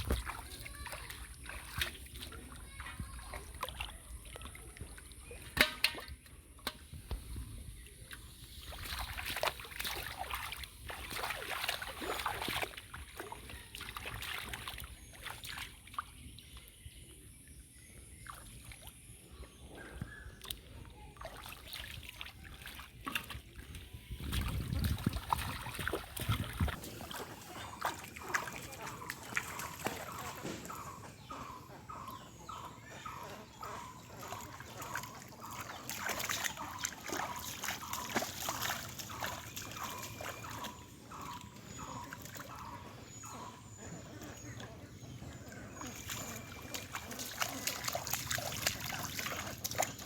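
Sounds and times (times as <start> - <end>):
pond water sloshing and splashing: 0.0 - 50.0.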